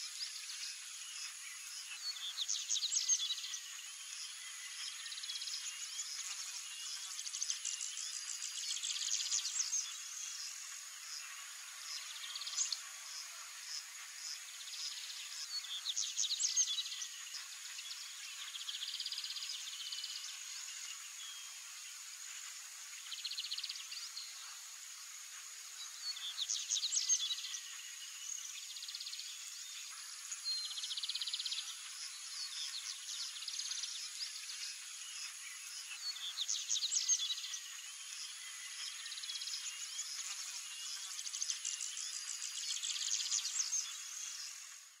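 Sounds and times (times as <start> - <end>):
bird chirps and song: 0.0 - 45.0.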